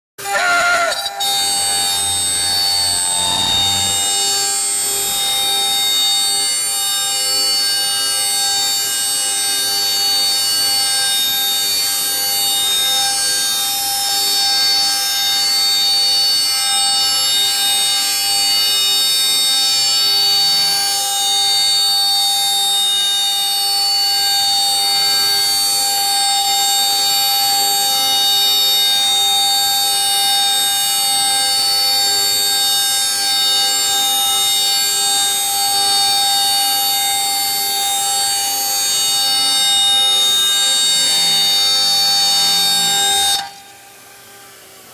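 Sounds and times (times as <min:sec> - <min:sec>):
router spindle high-pitched whine: 0:00.2 - 0:44.9.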